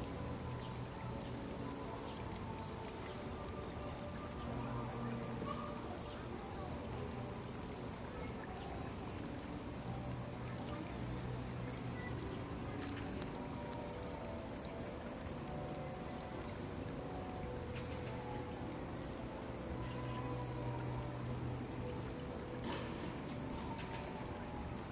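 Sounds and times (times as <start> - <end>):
insects buzzing: 0.0 - 24.9
low steady hum: 0.0 - 24.9.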